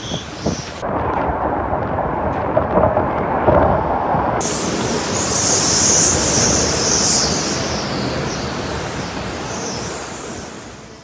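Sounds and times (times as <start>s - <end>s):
wind and rain rushing: 0.0s - 11.0s.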